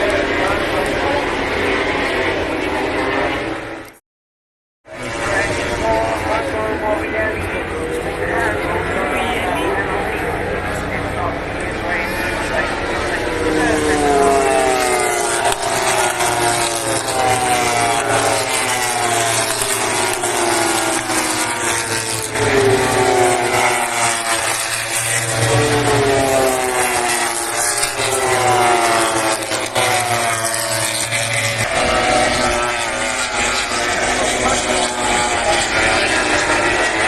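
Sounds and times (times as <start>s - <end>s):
race motorcycles passing: 4.9s - 37.0s
motorcycle engines downshifting: 5.0s - 37.0s.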